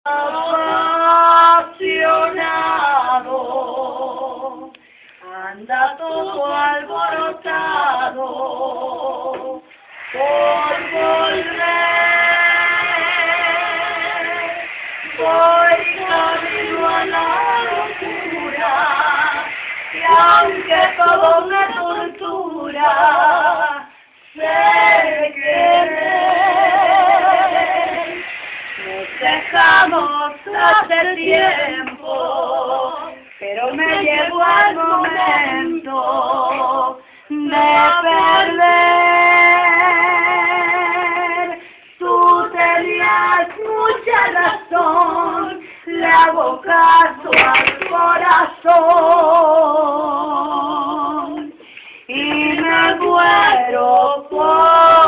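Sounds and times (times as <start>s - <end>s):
women singing unaccompanied: 0.0s - 55.0s.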